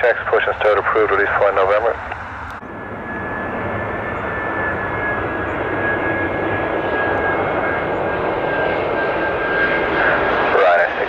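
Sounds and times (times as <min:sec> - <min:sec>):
high engine whine: 0:00.0 - 0:11.0
jet engines running: 0:00.0 - 0:11.0.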